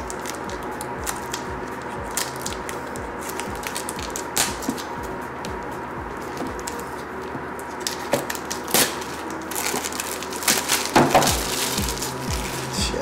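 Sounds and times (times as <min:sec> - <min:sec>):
plastic wrap crinkling: 0:00.0 - 0:13.0.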